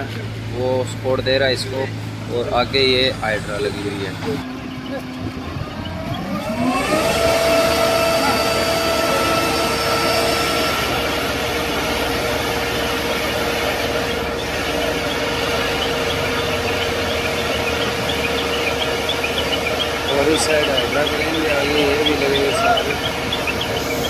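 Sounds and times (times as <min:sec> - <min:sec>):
diesel engines at high revs: 0:00.0 - 0:24.0.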